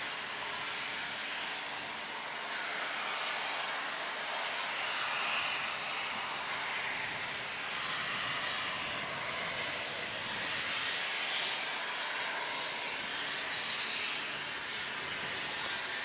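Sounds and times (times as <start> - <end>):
steam hissing from locomotive: 0.0 - 16.0.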